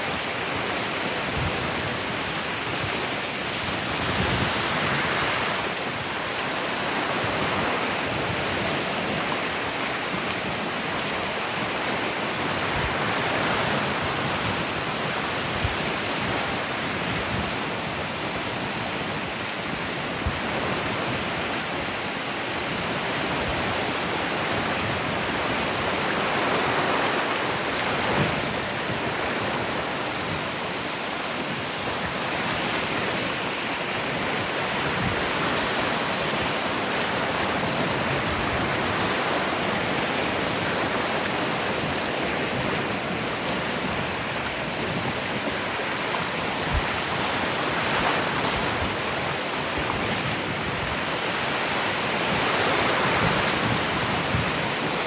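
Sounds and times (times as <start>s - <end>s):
ocean surf washing onto beach: 0.0s - 55.0s.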